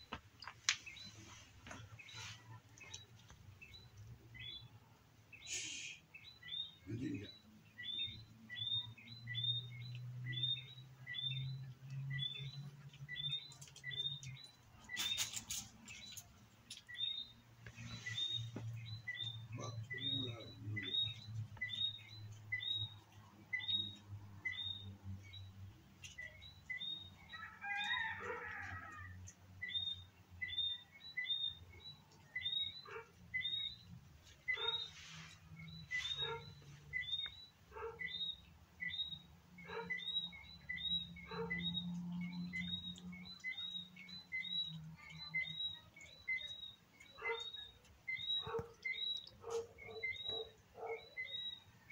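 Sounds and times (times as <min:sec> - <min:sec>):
bird chirping repeatedly: 0:00.0 - 0:51.9.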